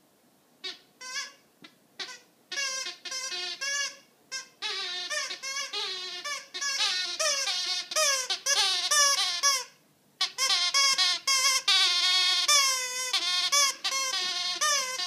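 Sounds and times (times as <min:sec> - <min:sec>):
high-pitched bleat-like squeaks: 0:00.6 - 0:01.4, 0:02.0 - 0:15.0.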